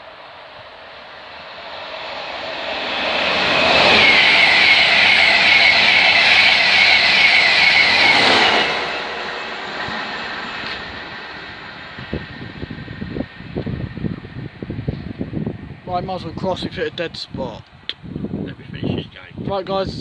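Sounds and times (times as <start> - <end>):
train passing with high whine: 0.0 - 19.3.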